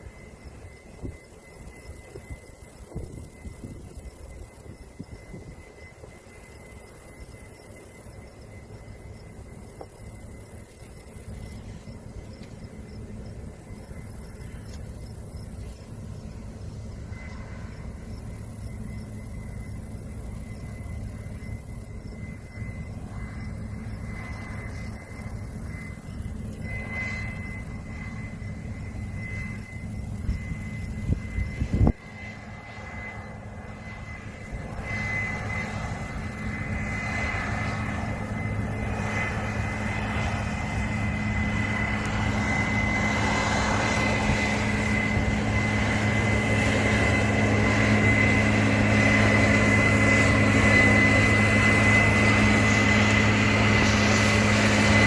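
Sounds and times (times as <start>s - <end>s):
combine harvester drone: 0.0s - 55.0s
high machinery whine: 0.0s - 55.0s.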